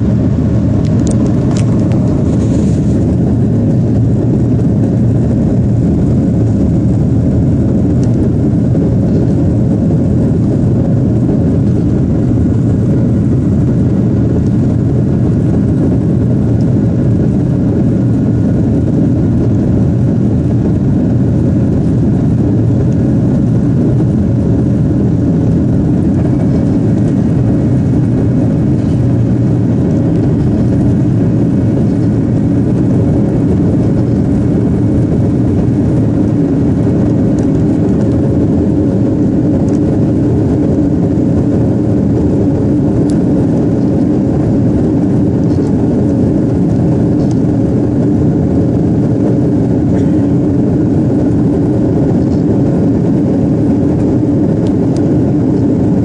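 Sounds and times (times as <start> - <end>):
faint steady hum: 0.0 - 56.0
jet engines and rushing air: 0.0 - 56.0.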